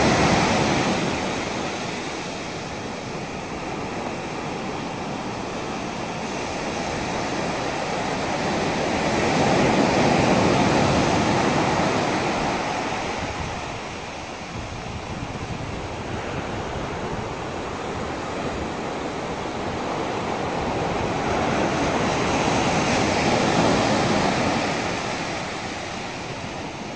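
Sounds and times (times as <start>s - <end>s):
ocean waves breaking: 0.0s - 26.9s.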